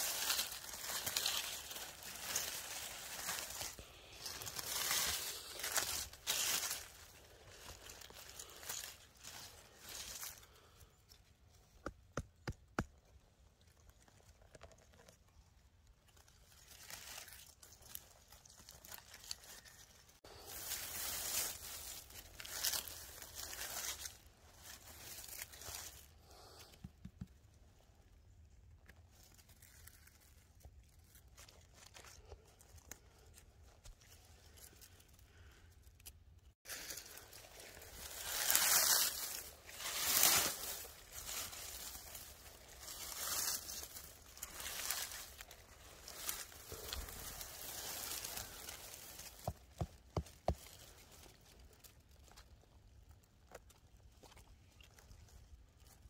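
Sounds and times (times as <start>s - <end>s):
dry needles rustling and crackling: 0.0s - 11.7s, 13.1s - 26.8s, 27.4s - 56.0s.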